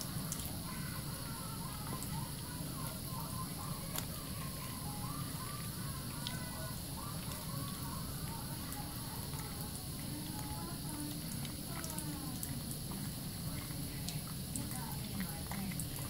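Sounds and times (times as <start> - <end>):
tap water running into sink: 0.0 - 16.0
wet hands lathering soap: 0.0 - 16.0.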